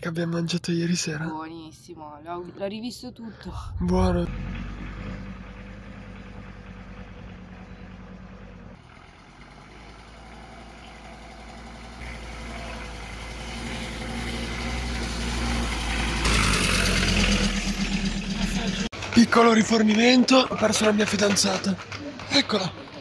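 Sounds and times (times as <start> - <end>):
van engine running: 3.5 - 23.0.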